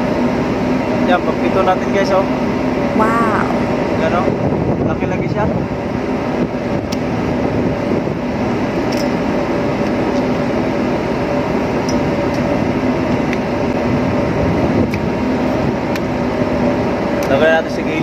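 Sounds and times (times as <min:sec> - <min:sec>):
ship machinery drone: 0:00.0 - 0:18.0.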